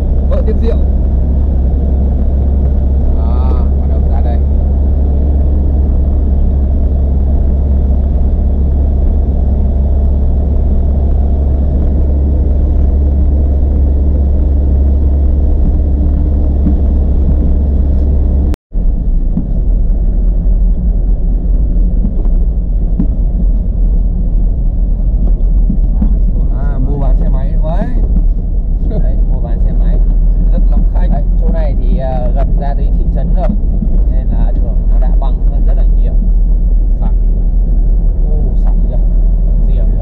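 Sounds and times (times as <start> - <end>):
road vehicle rumbling: 0.0 - 40.0.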